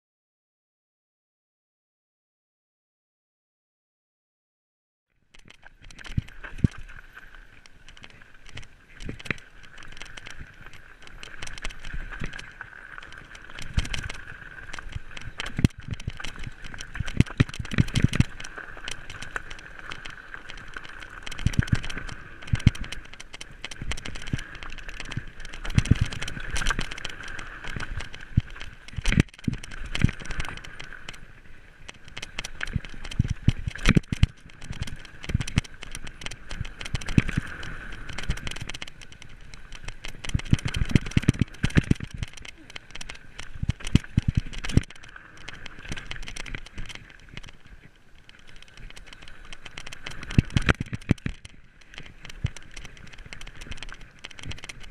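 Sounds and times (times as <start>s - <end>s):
bike tyres crunching on gravel: 5.5s - 51.0s
bike rattling and knocking: 7.8s - 31.2s, 31.8s - 47.6s, 48.2s - 54.9s.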